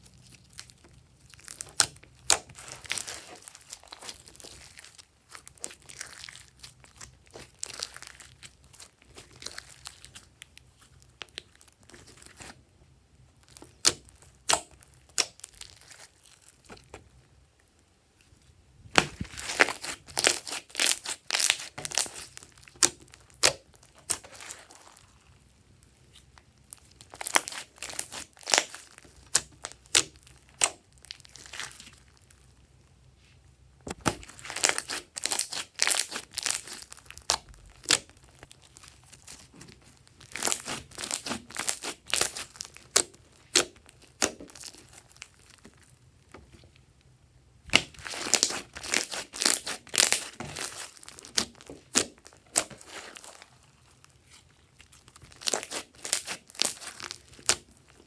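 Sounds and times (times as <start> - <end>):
slime clicking and crackling: 0.0 - 12.5, 13.4 - 17.0, 18.9 - 32.4, 33.9 - 46.3, 47.7 - 58.0.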